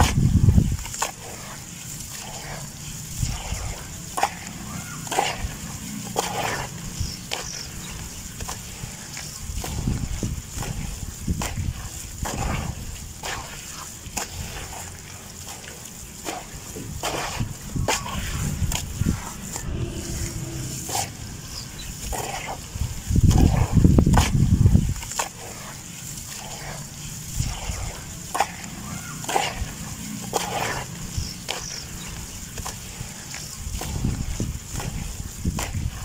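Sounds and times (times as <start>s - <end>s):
wet dirt squelching in water: 0.0s - 36.0s.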